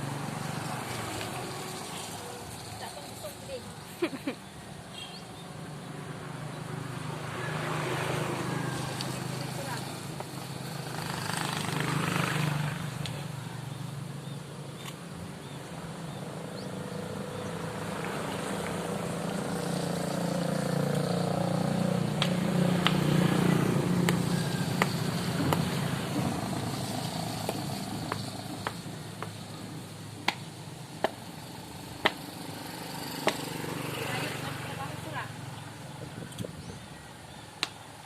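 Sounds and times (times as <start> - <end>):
vehicle engine passing by: 0.0 - 3.8, 5.2 - 14.4, 15.4 - 37.1.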